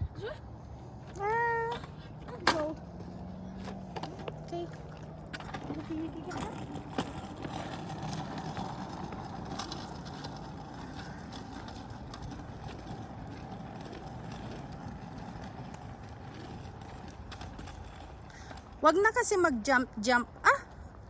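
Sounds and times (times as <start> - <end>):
scooter wheels rolling on pavement: 0.0 - 21.0.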